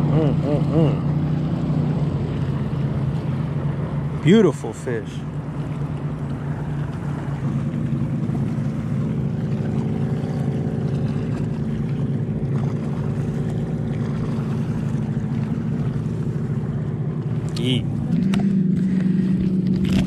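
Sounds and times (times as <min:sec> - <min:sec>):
motor droning: 0:00.0 - 0:20.0.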